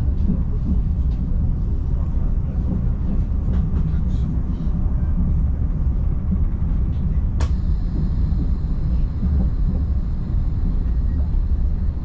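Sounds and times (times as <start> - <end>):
train rumble inside coach: 0.0 - 12.0.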